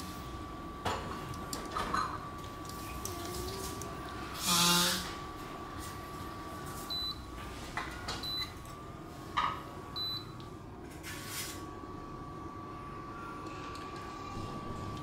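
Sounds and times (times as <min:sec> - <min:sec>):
cooktop humming and whining: 0:00.0 - 0:15.0.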